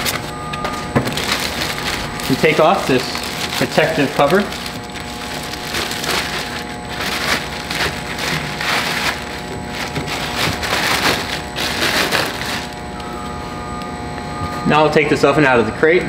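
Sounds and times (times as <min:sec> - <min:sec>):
plastic wrap crinkling: 0:00.0 - 0:13.1.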